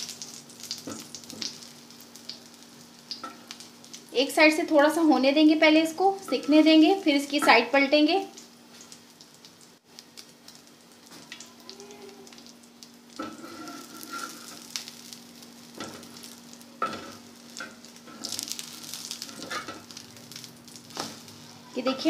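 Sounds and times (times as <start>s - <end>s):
bread sizzling in oil: 0.0s - 22.0s.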